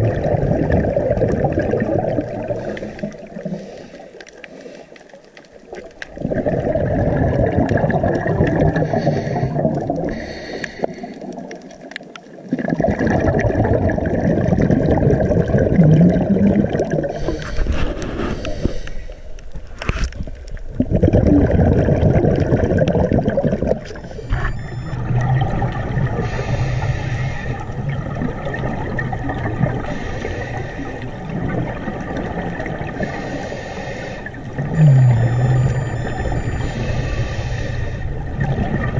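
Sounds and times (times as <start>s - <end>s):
diver's exhaled bubbles underwater: 0.0s - 3.7s, 5.6s - 18.8s, 19.5s - 38.9s.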